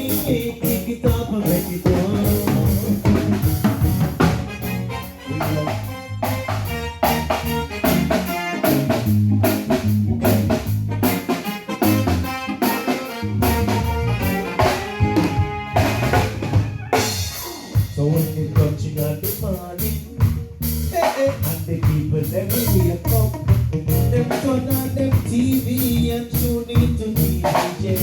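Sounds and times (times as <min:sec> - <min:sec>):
bass line: 0:00.0 - 0:28.0
drum kit: 0:00.0 - 0:28.0
keyboard chords: 0:00.0 - 0:28.0.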